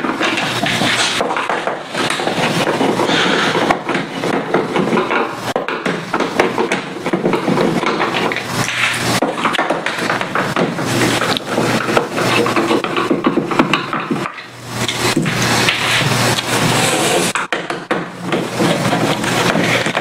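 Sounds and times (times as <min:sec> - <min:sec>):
screwdriver scraping and grinding: 0:00.0 - 0:20.0.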